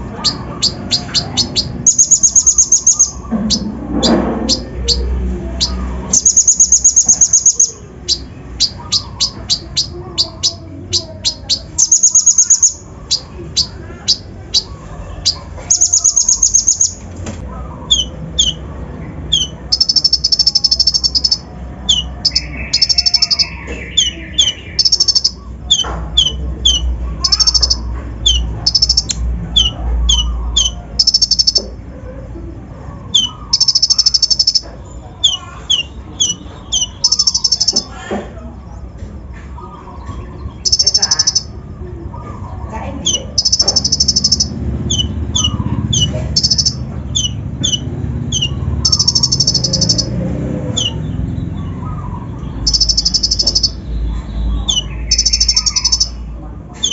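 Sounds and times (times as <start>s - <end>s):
bird singing chips and trills: 0.0s - 17.0s, 17.8s - 31.8s, 33.0s - 38.0s, 38.8s - 56.9s.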